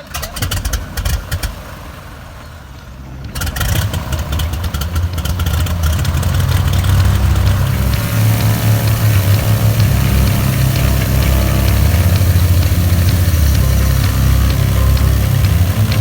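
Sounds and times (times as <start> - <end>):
piston aircraft engine starting: 0.0 - 16.0.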